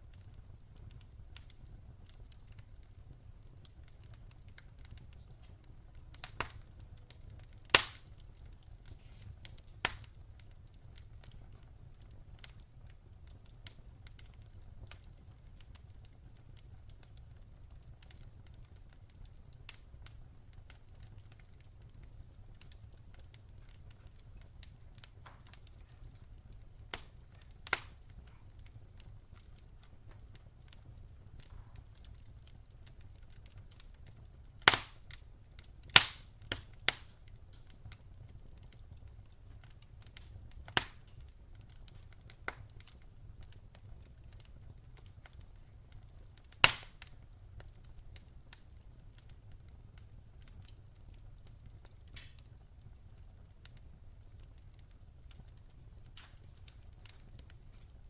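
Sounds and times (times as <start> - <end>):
burning wood popping: 0.0 - 58.0
campfire crackling: 0.0 - 58.0.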